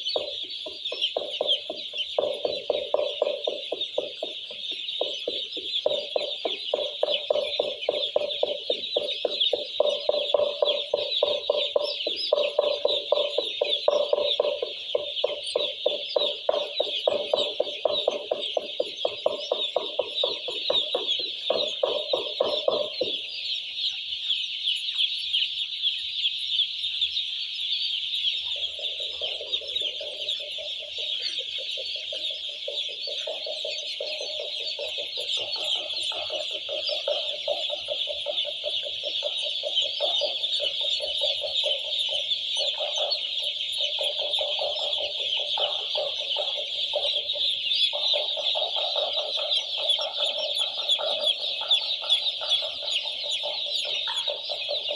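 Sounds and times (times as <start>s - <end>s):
chicks cheeping: 0.0s - 54.9s.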